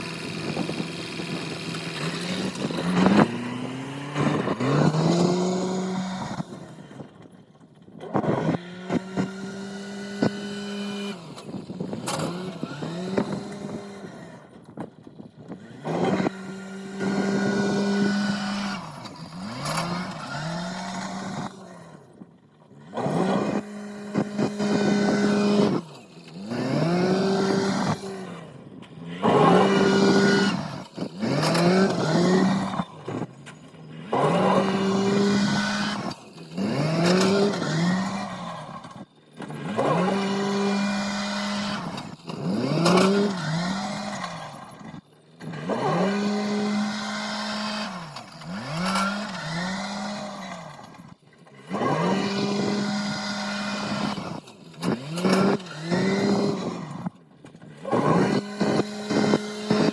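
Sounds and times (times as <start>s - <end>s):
machine engine revving: 0.0s - 59.9s.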